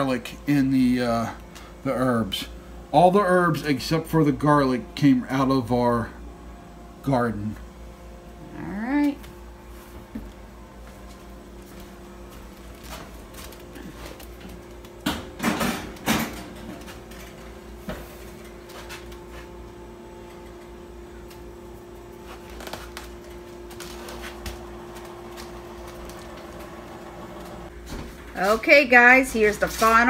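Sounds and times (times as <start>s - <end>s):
toaster oven humming: 0.0s - 30.0s.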